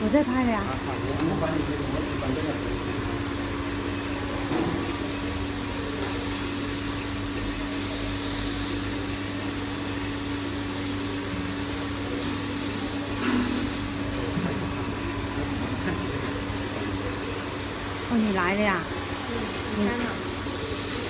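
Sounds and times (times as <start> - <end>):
furnace machine hum: 0.0 - 21.0.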